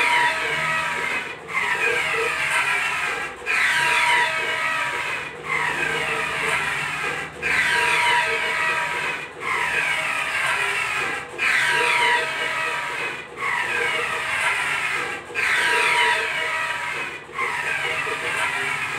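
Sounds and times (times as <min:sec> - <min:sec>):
printer carriage whine: 0:00.0 - 0:18.9.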